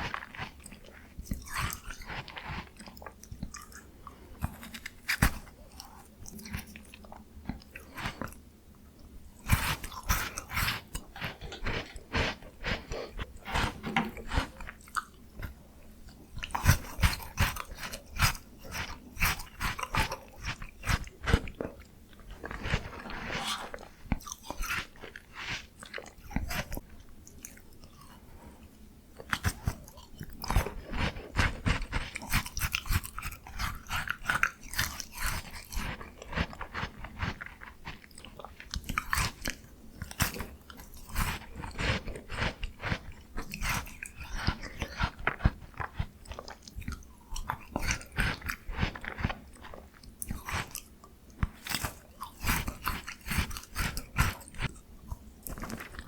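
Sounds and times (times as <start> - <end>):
crunching and chewing ice cream bar: 0.0 - 56.0.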